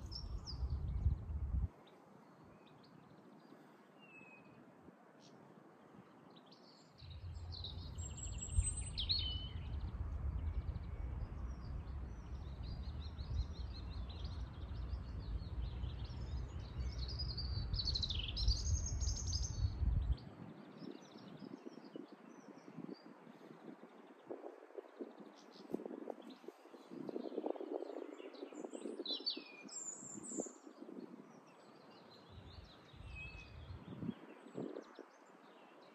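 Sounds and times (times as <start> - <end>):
songbirds chirping and trilling: 0.0 - 35.9.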